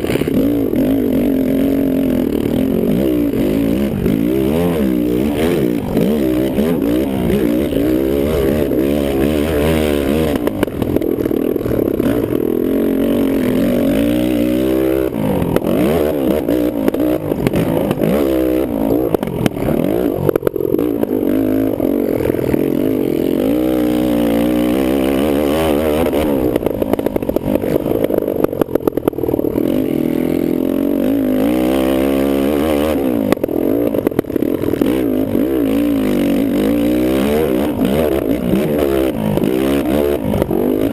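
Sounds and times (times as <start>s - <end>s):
quad engine revving: 0.0s - 40.9s.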